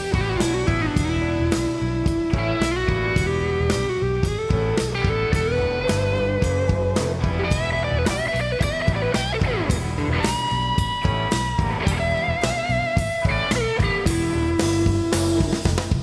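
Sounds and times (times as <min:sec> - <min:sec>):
electric guitar lead: 0:00.0 - 0:15.6
bass guitar: 0:00.0 - 0:16.0
steady drum beat: 0:00.0 - 0:16.0.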